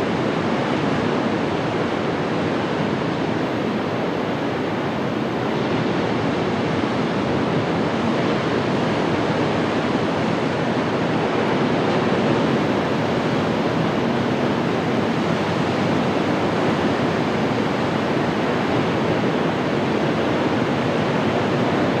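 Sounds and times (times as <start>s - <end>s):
water rushing past boat: 0.0s - 22.0s
wind: 0.0s - 22.0s.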